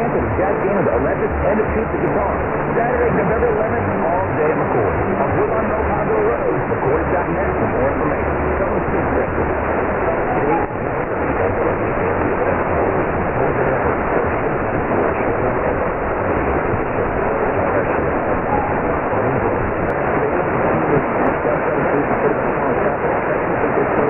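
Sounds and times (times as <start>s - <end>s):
radio hiss: 0.0s - 24.0s
weak distant radio station: 0.0s - 24.0s.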